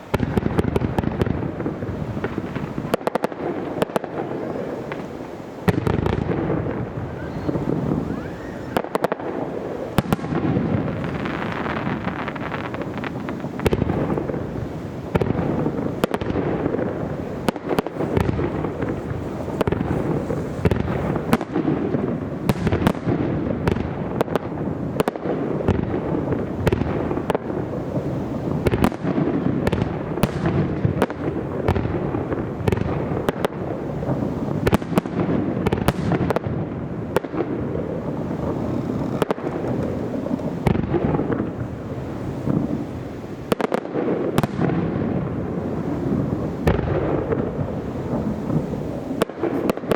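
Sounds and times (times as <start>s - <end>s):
fireworks bangs and crackles: 0.0s - 49.9s
fireworks rumble: 0.0s - 49.9s.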